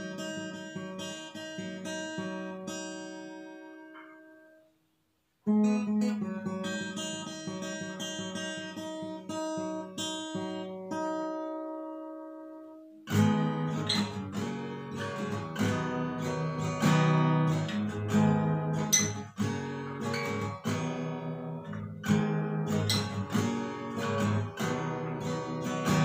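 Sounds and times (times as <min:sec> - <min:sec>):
acoustic guitar arpeggios: 0:00.0 - 0:04.7, 0:05.4 - 0:26.0.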